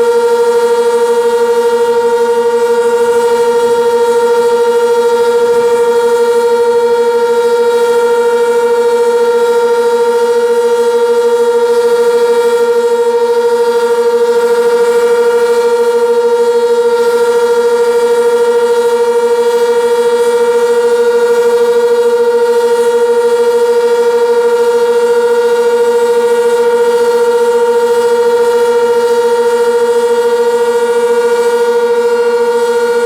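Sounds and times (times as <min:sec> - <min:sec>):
warning siren steady tone: 0:00.0 - 0:33.0.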